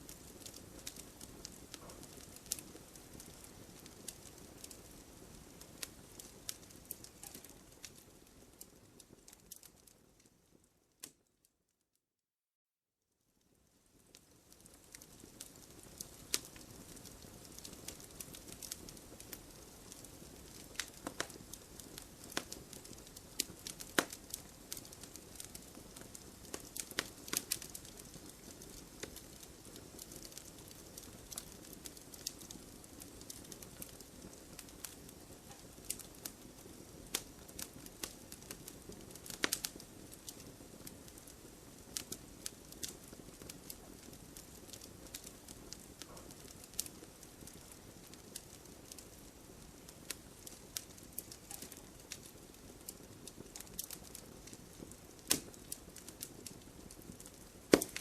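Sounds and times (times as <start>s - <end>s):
loud fire cracks: 0.0s - 9.9s, 14.1s - 58.0s
campfire crackling: 0.0s - 11.2s, 13.4s - 58.0s.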